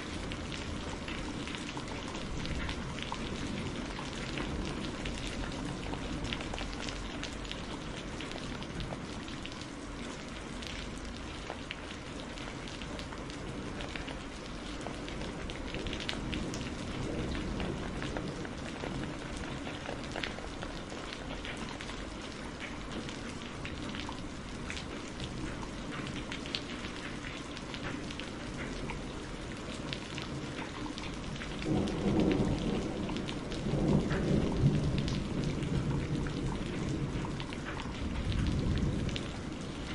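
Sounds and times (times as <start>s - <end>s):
low rumble of thunder: 0.0s - 39.9s
steady rain: 0.0s - 39.9s.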